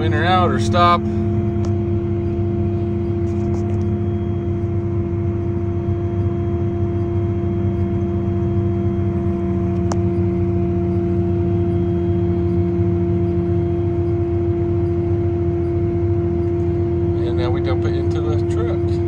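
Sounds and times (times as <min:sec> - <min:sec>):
tractor and harvester droning: 0:00.0 - 0:19.0.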